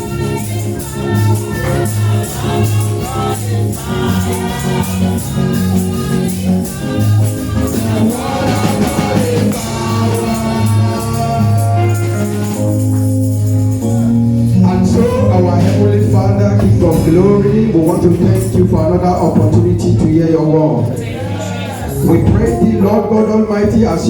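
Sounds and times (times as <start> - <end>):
percussion strokes: 0.0 - 20.4
bass line: 0.0 - 20.8
voices singing: 0.0 - 24.0.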